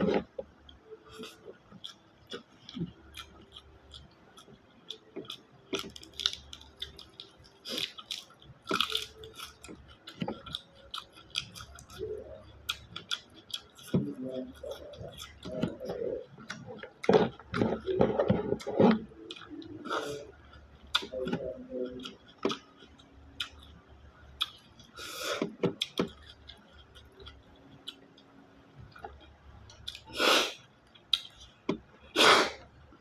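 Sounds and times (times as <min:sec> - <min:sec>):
chewing: 0:00.0 - 0:23.8, 0:24.4 - 0:31.6.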